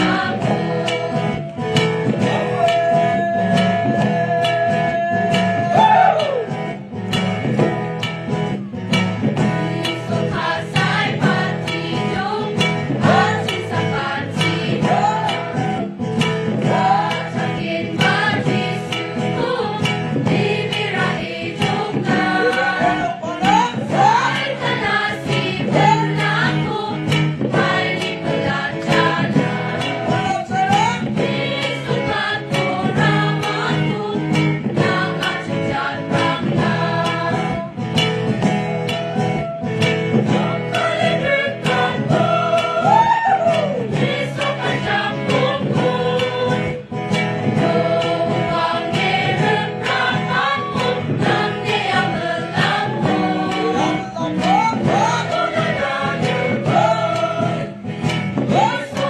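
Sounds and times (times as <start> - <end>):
mixed choir singing: 0.0 - 6.6, 9.4 - 37.9, 38.8 - 59.0
instrumental accompaniment with beat: 0.0 - 59.0.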